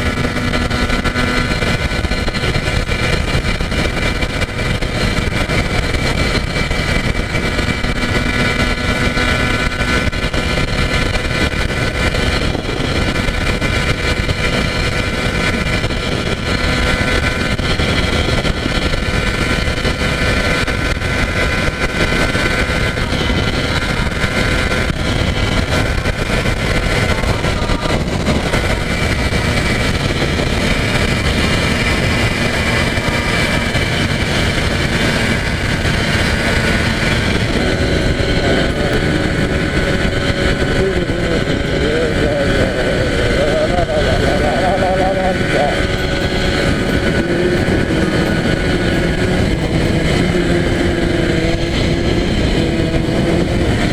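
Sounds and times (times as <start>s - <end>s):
two-stroke motorcycle engine running: 0.0s - 53.9s
wind rush on microphone: 0.0s - 53.9s.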